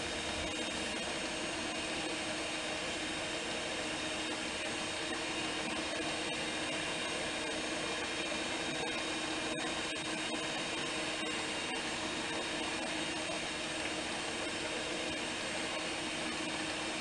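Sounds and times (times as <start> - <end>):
kitchen appliance motor humming: 0.0 - 17.0.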